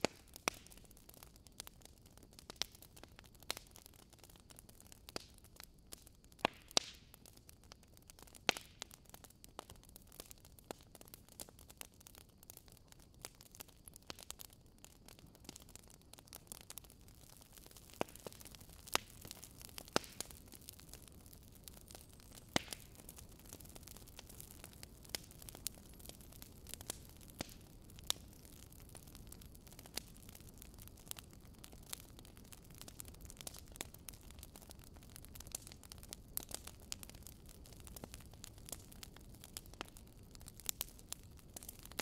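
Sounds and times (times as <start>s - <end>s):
bonfire crackling: 0.0s - 42.0s
fire hissing: 8.1s - 42.0s.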